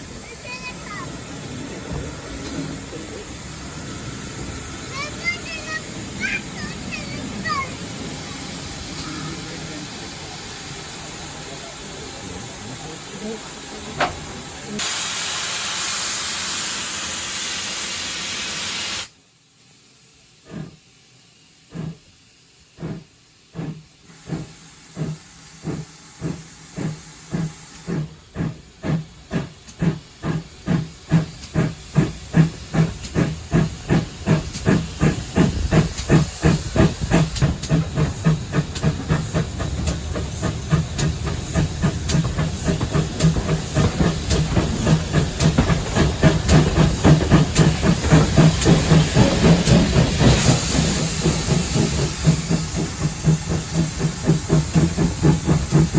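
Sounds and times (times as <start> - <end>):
steam hissing: 0.0 - 55.9
steam locomotive chuffing: 0.0 - 55.9.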